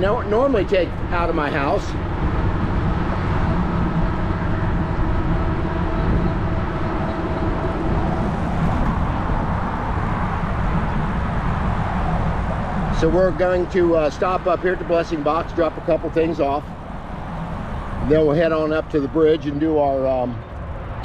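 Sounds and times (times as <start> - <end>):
bike tires rolling: 0.0 - 21.0
wind: 0.0 - 21.0.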